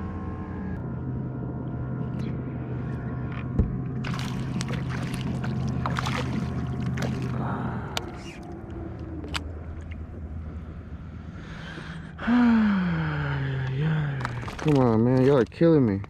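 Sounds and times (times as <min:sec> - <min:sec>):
low motor drone: 0:00.0 - 0:15.5.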